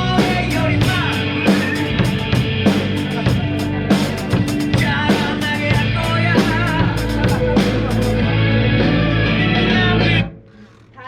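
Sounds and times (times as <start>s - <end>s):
rock band playing: 0.0s - 10.3s.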